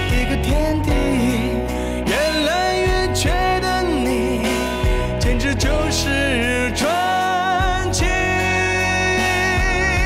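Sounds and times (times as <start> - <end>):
instrumental backing with bass: 0.0 - 10.0
person singing: 0.0 - 10.0.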